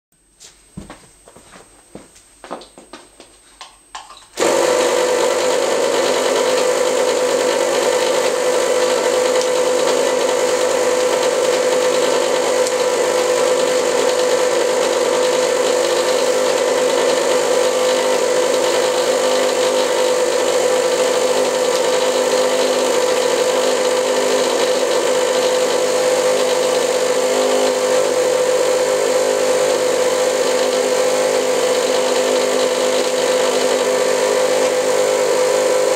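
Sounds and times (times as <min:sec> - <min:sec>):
electric motor whining: 0:04.4 - 0:35.9.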